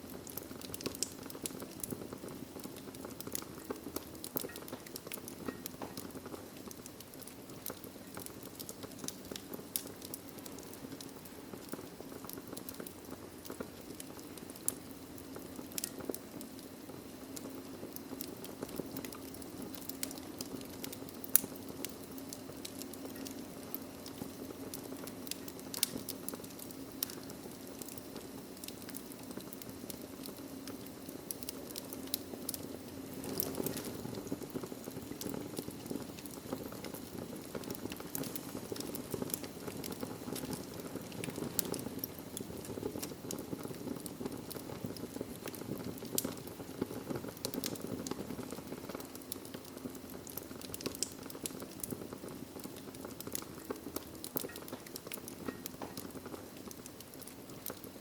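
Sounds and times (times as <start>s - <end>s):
wood fire crackling in fireplace: 0.0s - 58.0s.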